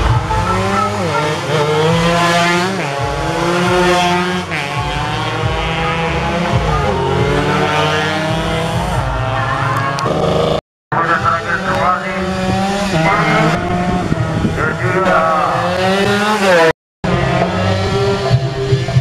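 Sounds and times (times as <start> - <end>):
racing motorcycles revving: 0.0 - 19.0.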